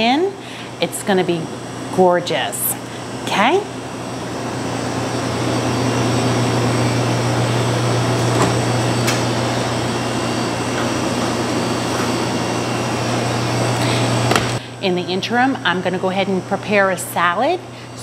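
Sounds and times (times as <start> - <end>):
kitchen fans whirring: 0.0 - 18.0.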